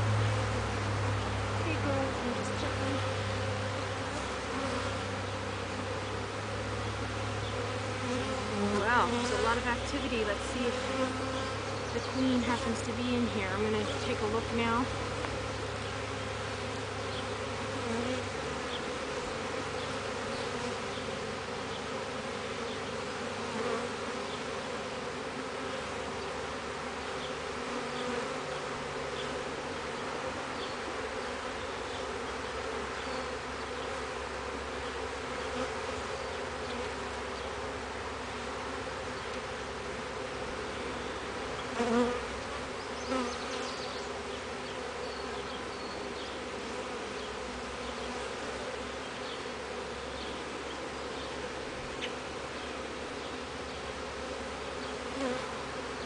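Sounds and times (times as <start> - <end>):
honey bees buzzing: 0.0 - 56.0.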